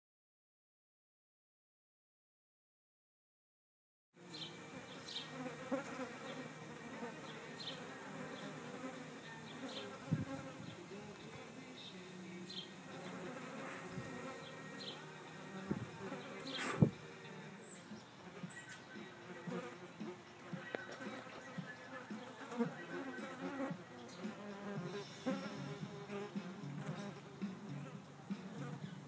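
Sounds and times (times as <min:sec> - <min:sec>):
flies buzzing: 0:04.2 - 0:29.0.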